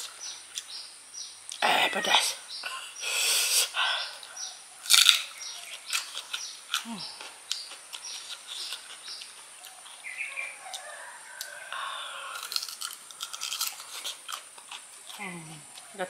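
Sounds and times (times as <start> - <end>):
crunching and chewing fruit: 0.0 - 1.6, 3.4 - 16.0
small birds chirping: 0.0 - 16.0.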